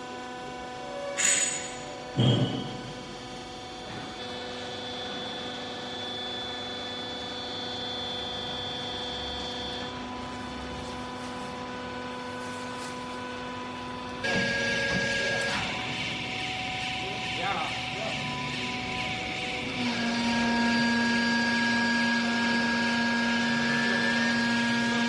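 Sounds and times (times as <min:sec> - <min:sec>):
hydraulic motor and pump whine: 0:00.0 - 0:25.0.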